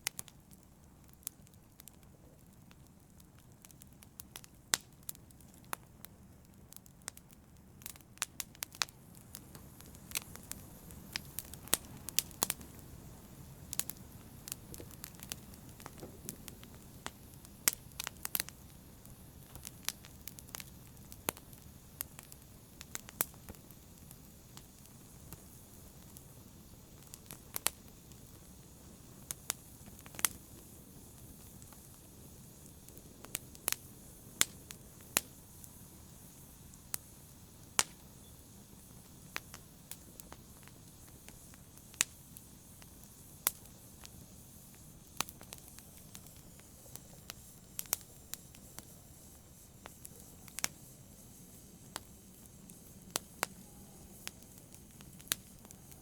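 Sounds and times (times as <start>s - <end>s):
fire crackling and popping: 0.0s - 56.0s
fire hissing: 0.0s - 56.0s.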